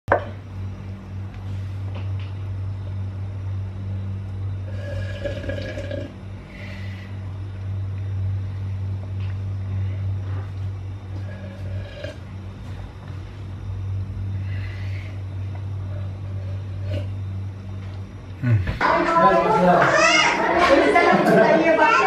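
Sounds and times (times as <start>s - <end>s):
steady low hum: 0.1s - 22.0s.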